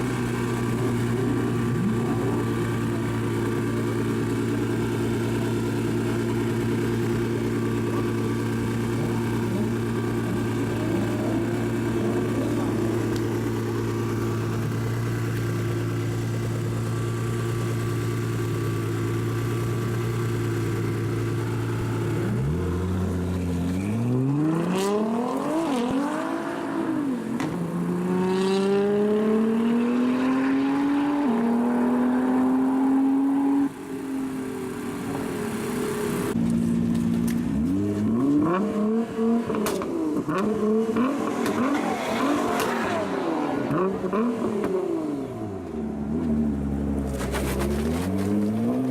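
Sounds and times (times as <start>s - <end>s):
sports car engine revving: 0.0s - 34.1s, 34.7s - 48.9s.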